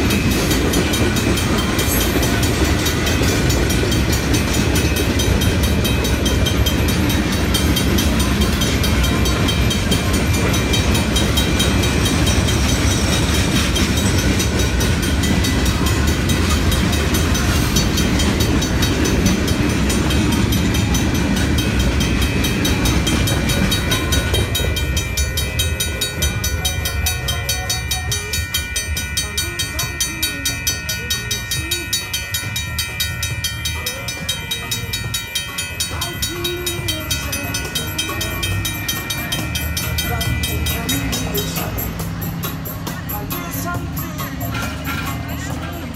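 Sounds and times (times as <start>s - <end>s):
crossing signal bells ringing: 0.0s - 45.9s
freight cars rumbling and clacking: 0.0s - 45.9s.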